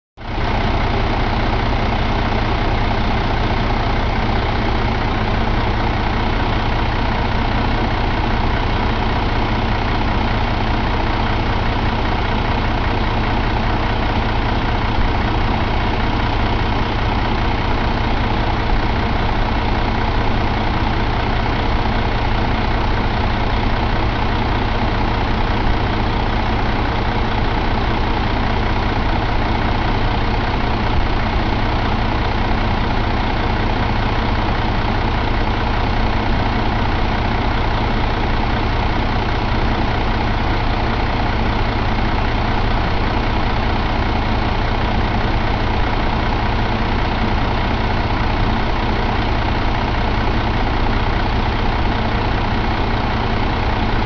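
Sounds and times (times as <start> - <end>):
diesel engine idling: 0.2 - 54.0.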